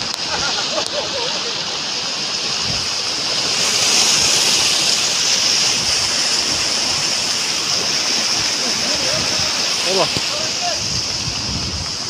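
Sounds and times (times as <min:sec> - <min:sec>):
floodwater rushing down a channel: 0:00.0 - 0:12.0.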